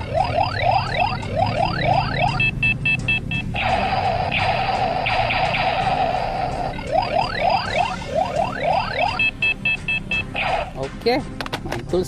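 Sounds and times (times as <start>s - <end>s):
pulsing electronic tone: 0.0s - 10.8s.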